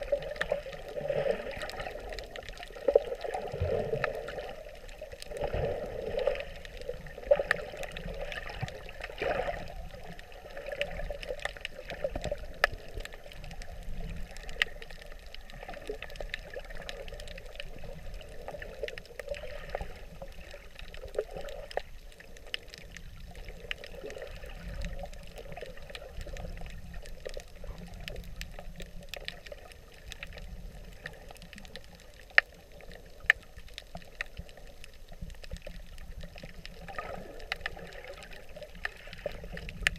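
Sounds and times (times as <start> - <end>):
sharp clicks underwater: 0.0 - 39.9
water sloshing and gurgling underwater: 0.0 - 39.9.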